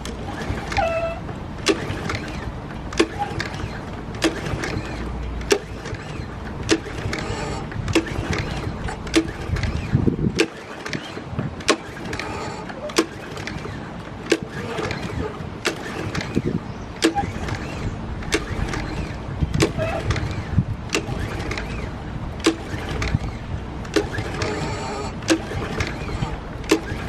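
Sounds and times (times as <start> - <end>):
lawn mower pull-start attempts: 0.0 - 27.0
recoil starter click: 1.6 - 27.0.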